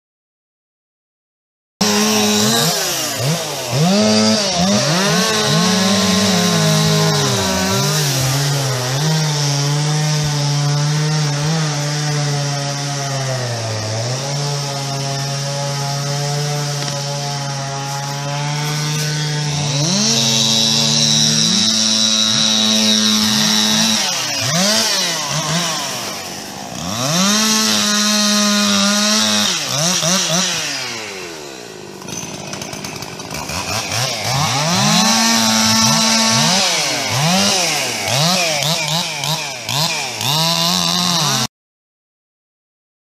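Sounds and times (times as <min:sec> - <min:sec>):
chainsaw running: 0:01.8 - 0:41.5.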